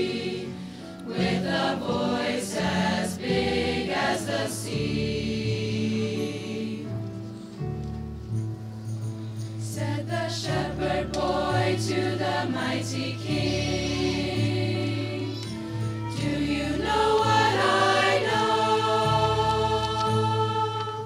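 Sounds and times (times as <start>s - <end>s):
choir singing a carol in harmony: 0.0s - 7.4s, 9.6s - 21.0s.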